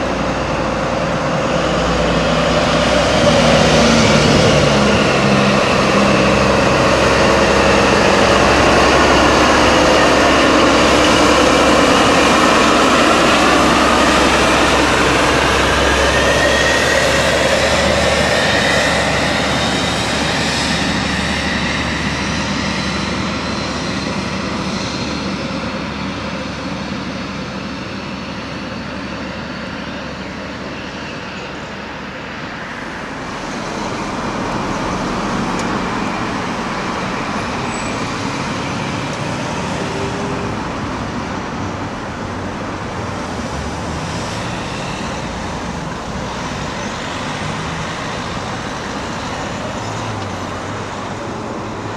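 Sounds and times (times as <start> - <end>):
train running on rails: 0.0 - 51.9.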